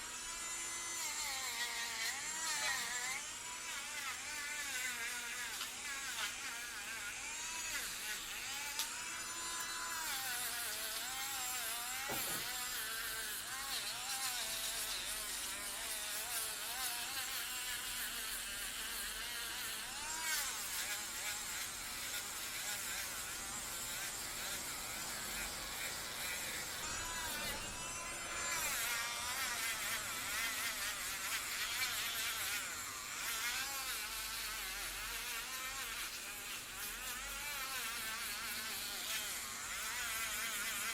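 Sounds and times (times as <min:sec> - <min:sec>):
nail drill whining: 0:00.0 - 0:40.9.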